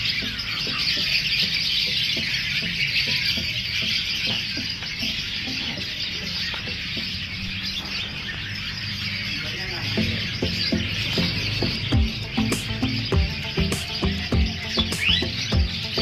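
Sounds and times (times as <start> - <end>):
music playing: 0.0 - 7.9, 9.8 - 16.0
many birds chirping: 0.0 - 16.0.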